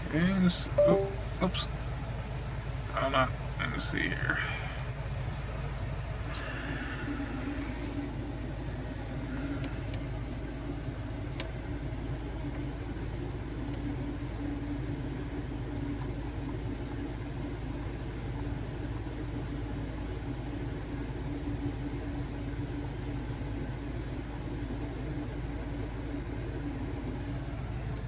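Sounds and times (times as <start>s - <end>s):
computer fans humming: 0.0s - 28.0s.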